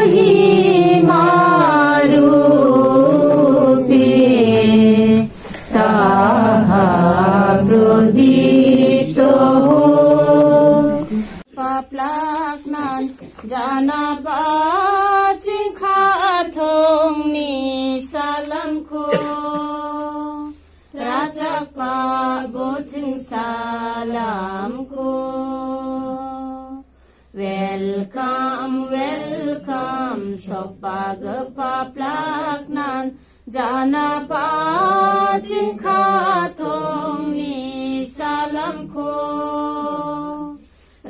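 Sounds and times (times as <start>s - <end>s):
women singing a hymn together: 0.0s - 40.8s
women singing with long held notes: 0.0s - 41.0s.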